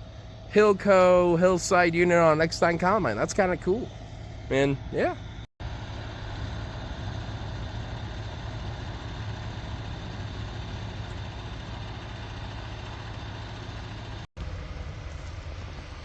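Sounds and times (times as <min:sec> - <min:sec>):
heavy vehicle engine droning: 0:00.0 - 0:16.0.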